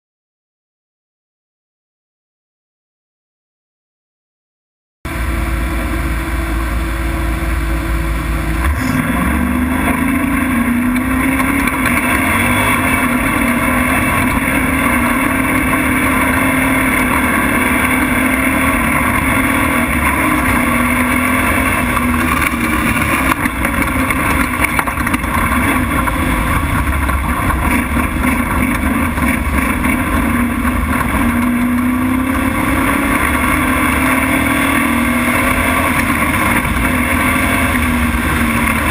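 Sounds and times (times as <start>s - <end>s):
race truck engine revving: 5.1s - 38.9s
rough road and body noise: 5.1s - 38.9s.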